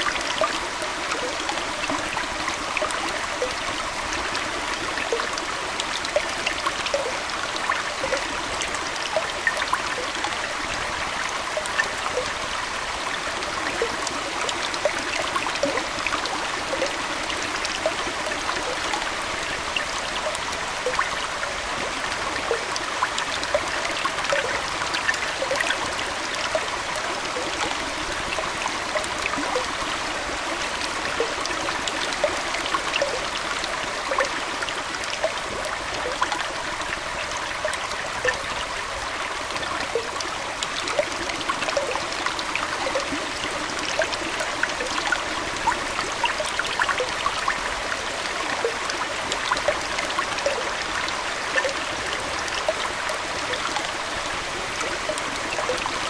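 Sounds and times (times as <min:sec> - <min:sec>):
aquarium water trickling: 0:00.0 - 0:56.0
water plinks and drips: 0:00.0 - 0:56.0.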